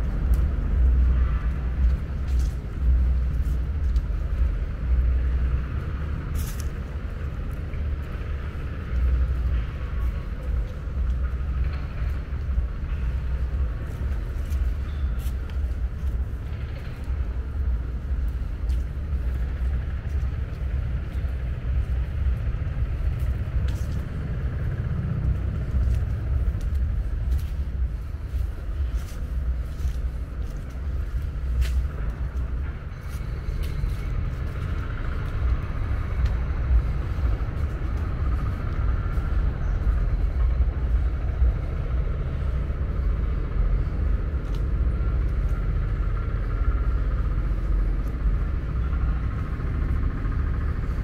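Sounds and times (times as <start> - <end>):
distant road traffic rumble: 0.0 - 51.0.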